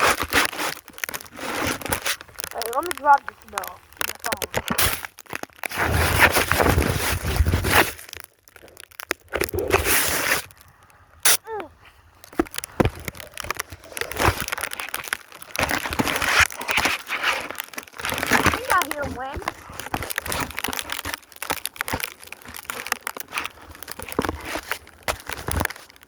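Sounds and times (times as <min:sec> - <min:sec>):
snow crunching against microphone: 0:00.0 - 0:26.0.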